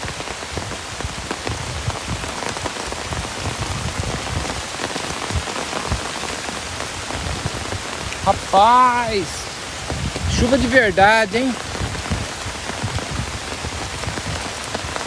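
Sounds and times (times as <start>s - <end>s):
heavy rain falling: 0.0s - 15.0s
low thuds of raindrops: 0.0s - 15.0s.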